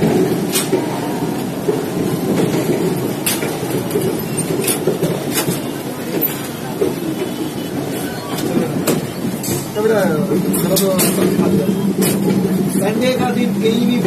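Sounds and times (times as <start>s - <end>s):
rumble of train wheels on track: 0.0s - 14.0s
wheels clacking over rail joints: 0.0s - 14.0s.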